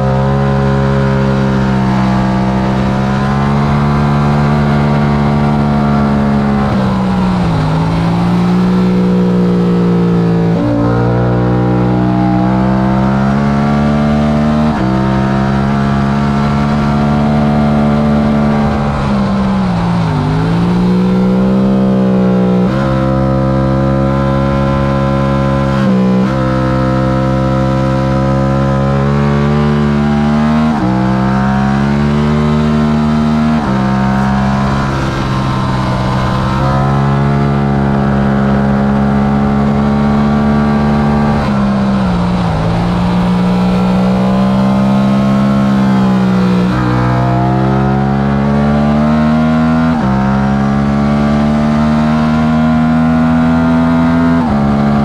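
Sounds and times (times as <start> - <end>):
motorcycle engine revving hard: 0.0 - 55.0.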